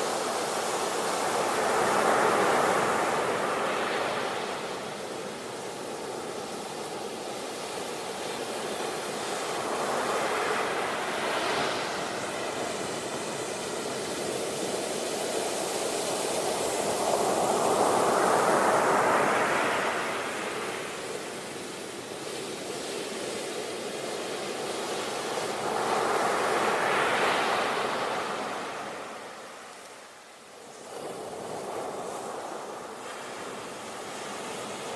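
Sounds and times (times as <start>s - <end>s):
surf hiss: 0.0s - 34.9s.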